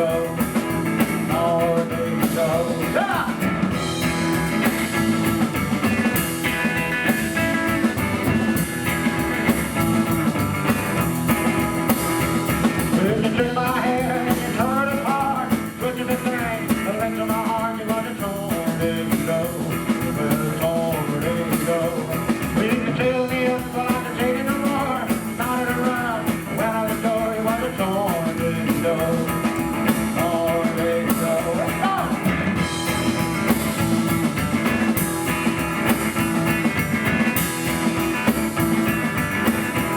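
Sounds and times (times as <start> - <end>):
drums with driving beat: 0.0 - 39.9
electric guitar: 0.0 - 39.9
slapped double bass: 0.0 - 39.9.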